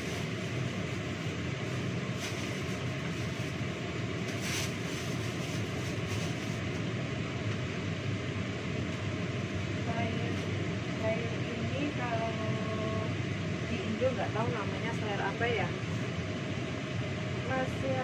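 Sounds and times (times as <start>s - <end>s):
range hood fan humming: 0.0s - 18.0s.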